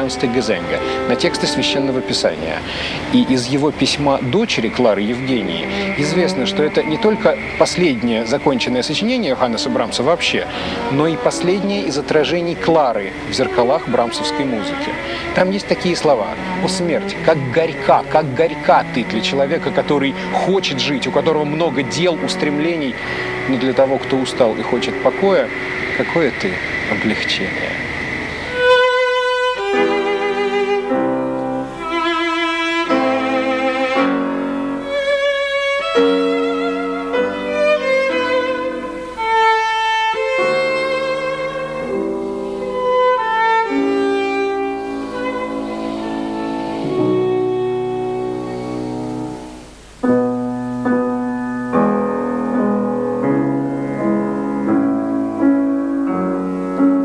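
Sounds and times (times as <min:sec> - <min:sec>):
piano accompaniment: 0:00.0 - 0:57.0
violin melody with vibrato: 0:00.0 - 0:57.0.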